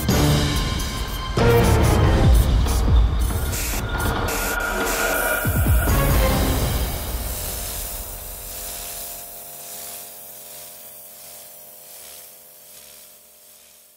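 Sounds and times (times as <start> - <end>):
pressure washer water jet hissing: 0.0 - 13.9.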